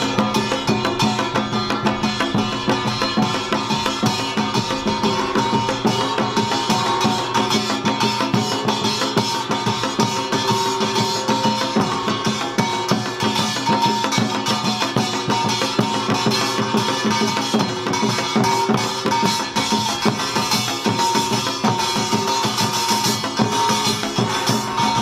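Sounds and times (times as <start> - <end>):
drums beating: 0.0 - 25.0
small gongs clanging fast: 0.0 - 25.0.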